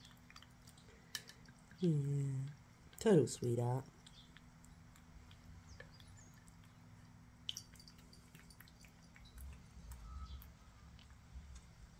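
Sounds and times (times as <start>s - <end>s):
cat eating wet food: 0.0s - 3.1s, 3.8s - 11.9s
low steady hum: 0.0s - 11.9s.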